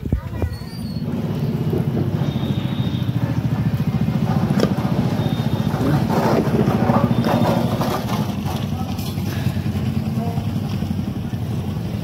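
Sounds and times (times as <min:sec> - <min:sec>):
engine throbbing: 0:01.0 - 0:12.0.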